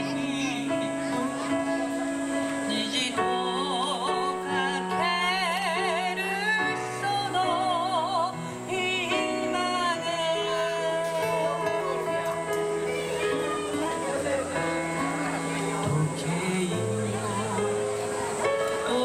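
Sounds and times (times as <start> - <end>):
electric keyboard chords: 0.0 - 19.0
woman singing with vibrato: 0.0 - 19.0.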